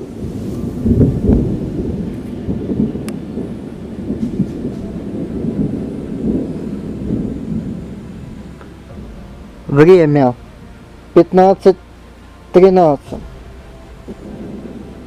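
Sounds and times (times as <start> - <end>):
rolling thunder: 0.0 - 15.0.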